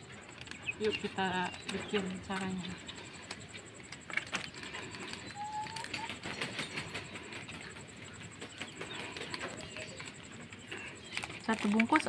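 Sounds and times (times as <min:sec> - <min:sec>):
faint bird calls: 0:00.4 - 0:11.7.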